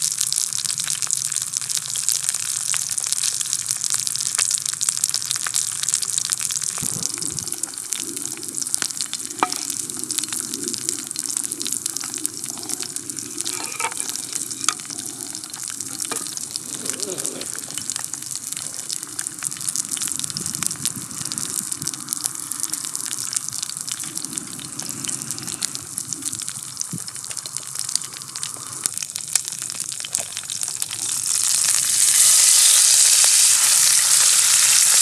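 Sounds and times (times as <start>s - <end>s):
steak sizzling in a frying pan: 0.0s - 35.0s.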